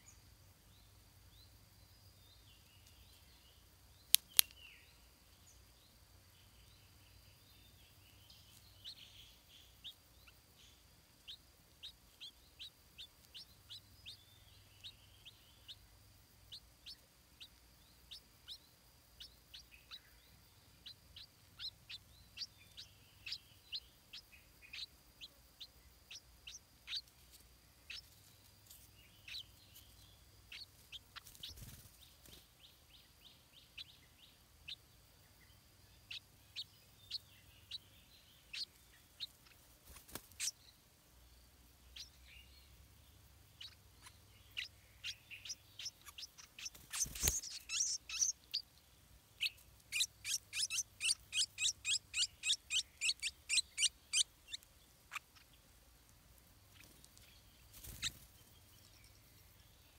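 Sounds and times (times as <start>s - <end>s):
small bird chirping: 0.0s - 59.9s.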